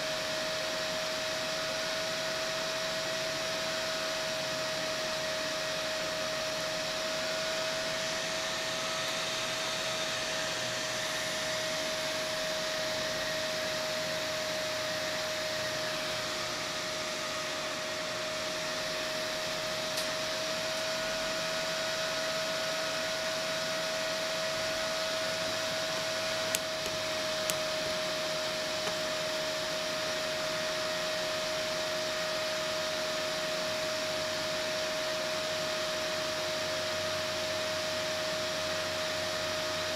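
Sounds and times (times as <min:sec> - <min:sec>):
cooling fan whirring: 0:00.0 - 0:39.9.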